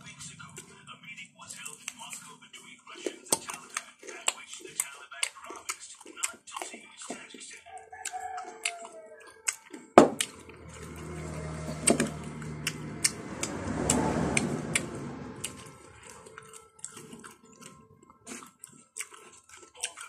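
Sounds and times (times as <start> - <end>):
wet chewing of papaya: 0.1 - 20.0.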